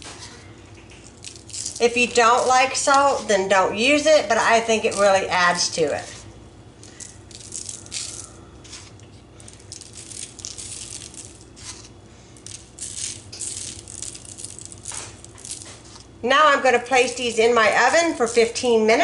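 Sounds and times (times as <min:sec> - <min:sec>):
salt grains pattering on paper: 0:00.8 - 0:19.0.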